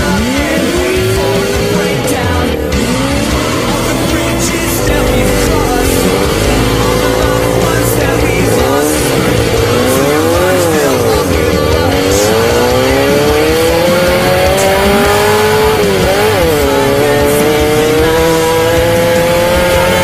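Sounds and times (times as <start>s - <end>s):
race vehicle engine revving: 0.0s - 20.0s.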